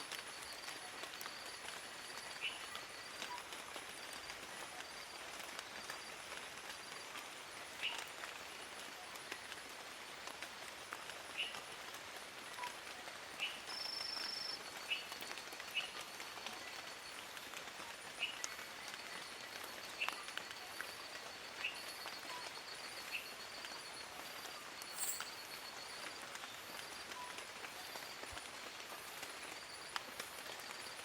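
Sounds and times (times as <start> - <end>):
rain falling through foliage: 0.0 - 31.0.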